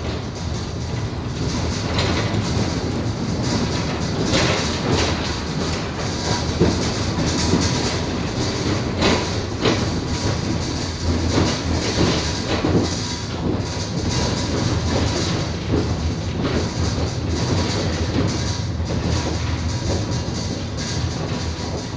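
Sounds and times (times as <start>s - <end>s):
tram rumbling on rails: 0.0s - 21.9s
wheel clicks and knocks on track: 0.0s - 21.9s.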